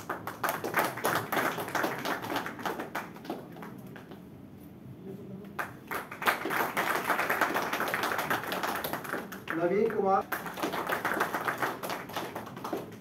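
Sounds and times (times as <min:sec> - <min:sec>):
small group clapping: 0:00.0 - 0:04.4, 0:05.4 - 0:13.0.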